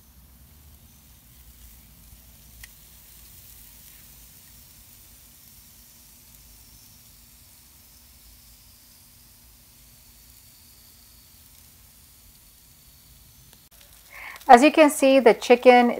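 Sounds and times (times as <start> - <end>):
chicken sizzling on a grill: 0.0 - 15.9.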